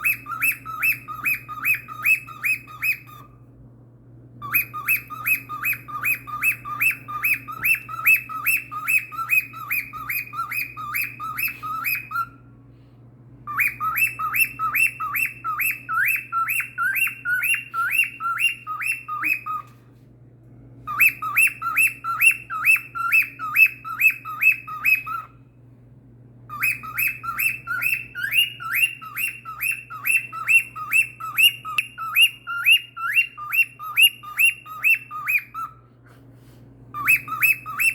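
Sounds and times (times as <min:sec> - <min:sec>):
cockatiel chirping: 0:00.0 - 0:03.3, 0:04.4 - 0:12.4, 0:13.5 - 0:19.8, 0:20.9 - 0:25.4, 0:26.5 - 0:35.8, 0:36.9 - 0:37.9.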